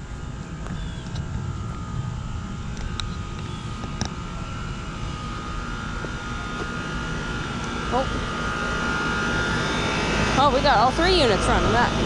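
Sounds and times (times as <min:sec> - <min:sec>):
heat pump fans humming: 0:00.0 - 0:12.0
thin steady whine: 0:00.0 - 0:12.0.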